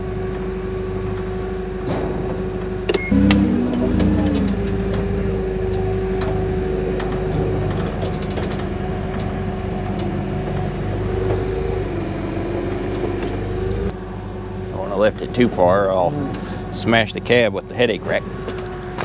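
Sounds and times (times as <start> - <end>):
hydraulic pump motor humming: 0.0 - 19.0.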